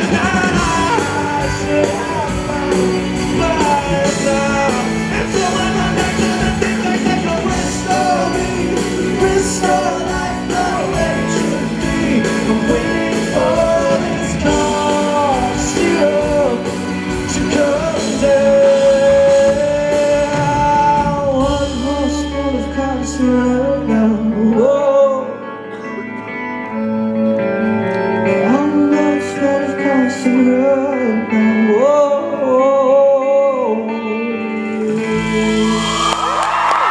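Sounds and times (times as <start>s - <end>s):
live rock band: 0.0s - 36.9s.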